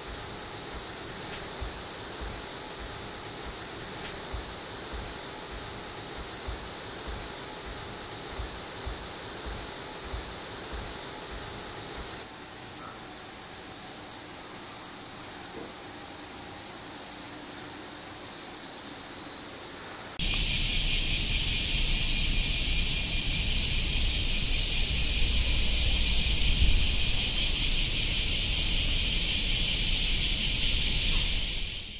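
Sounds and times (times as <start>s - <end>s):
cicada chorus: 0.0s - 31.9s
high insect trill: 0.0s - 31.9s.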